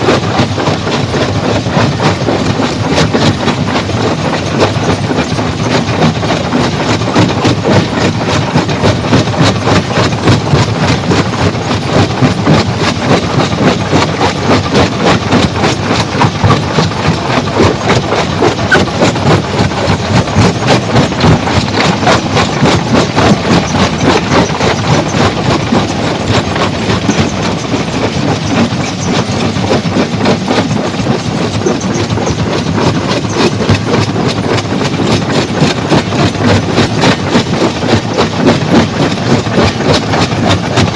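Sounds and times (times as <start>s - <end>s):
stone crushing machine clattering: 0.0s - 40.9s.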